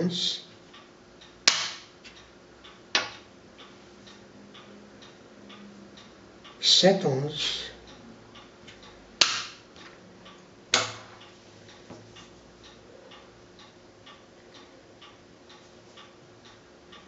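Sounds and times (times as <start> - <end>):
clock ticking faintly: 0.0 - 9.3, 10.2 - 17.0.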